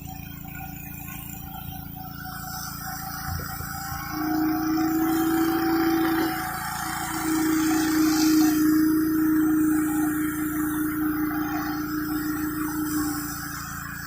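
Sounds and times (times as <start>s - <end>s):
pressure washer engine running: 0.0s - 14.0s
high-pressure water spraying: 0.2s - 14.0s.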